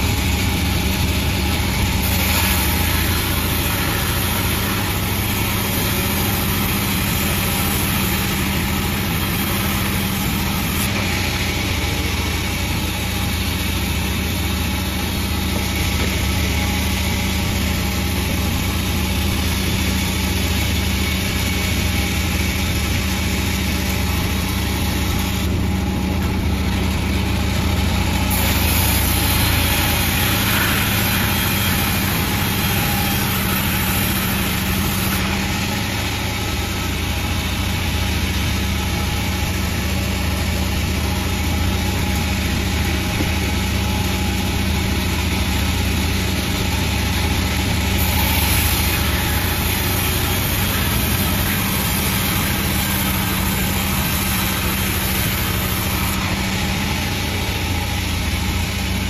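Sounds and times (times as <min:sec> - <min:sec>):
machine noise hiss: 0:00.0 - 0:25.5, 0:28.0 - 0:59.0
sawmill engine humming: 0:00.0 - 0:59.0.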